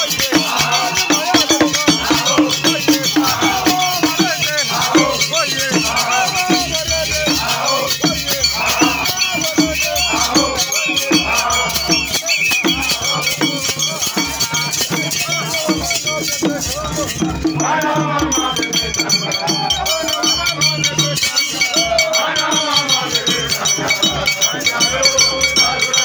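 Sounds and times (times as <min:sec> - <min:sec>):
crowd singing a chant: 0:00.0 - 0:26.0
hand drums beaten with sticks: 0:00.0 - 0:26.0.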